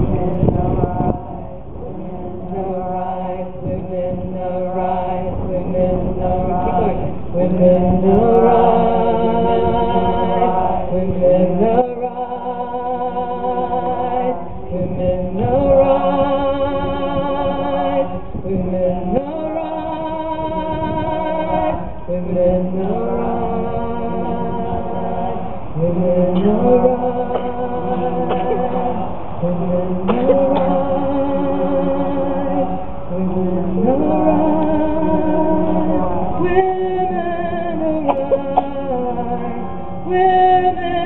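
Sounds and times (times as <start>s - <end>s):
group singing long notes: 0.0s - 41.0s.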